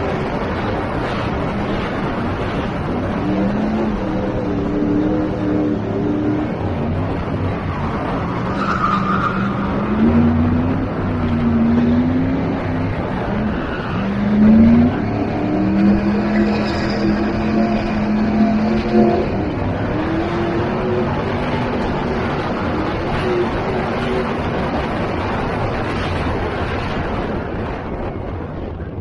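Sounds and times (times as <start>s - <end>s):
engine revving: 0.0s - 27.7s
tyres skidding on asphalt: 0.0s - 29.0s.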